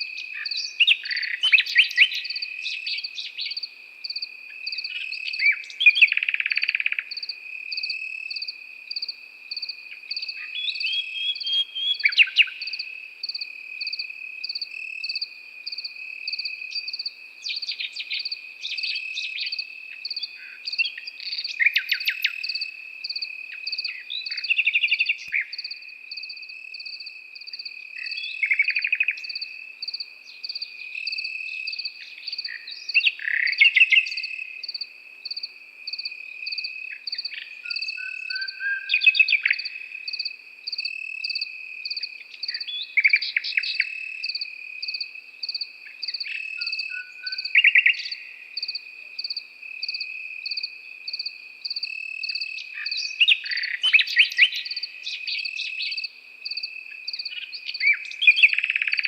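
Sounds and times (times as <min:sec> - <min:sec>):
cricket pulsing chirp: 0:00.0 - 0:59.0
cricket steady trill: 0:00.0 - 0:59.0
nightingale singing: 0:00.0 - 0:59.0.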